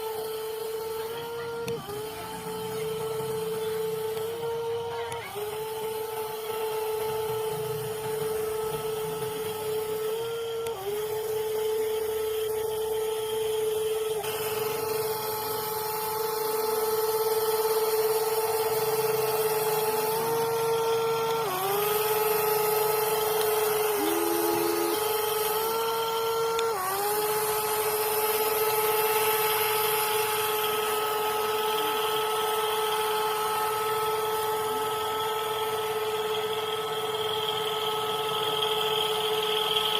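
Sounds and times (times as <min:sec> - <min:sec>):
electric toy excavator motor whine: 0:00.0 - 0:39.9.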